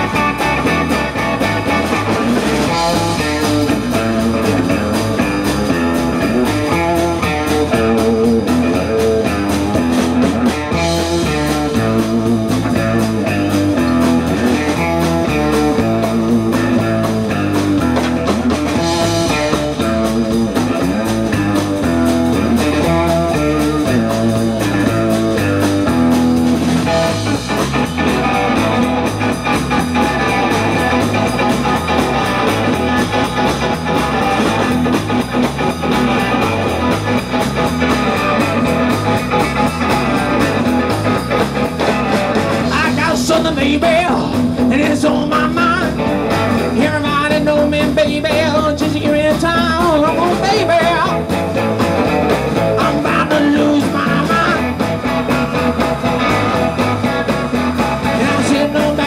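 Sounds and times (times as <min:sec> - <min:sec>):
electric guitar bent notes: 0:00.0 - 0:59.0
live blues band playing: 0:00.0 - 0:59.0.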